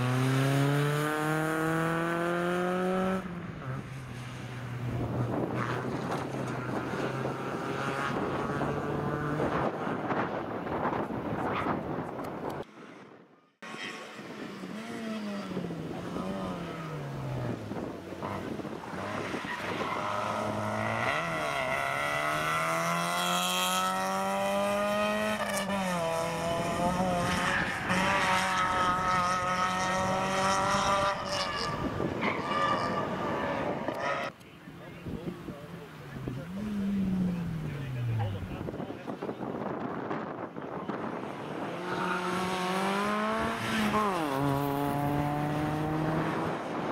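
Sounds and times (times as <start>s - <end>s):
rally car accelerating: 0.0s - 12.0s, 13.6s - 34.4s, 35.0s - 46.9s.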